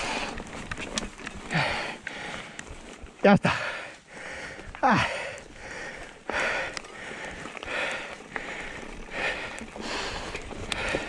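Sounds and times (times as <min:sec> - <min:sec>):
cyclist breathing hard: 0:00.0 - 0:11.0
tyres on trail: 0:00.0 - 0:11.0.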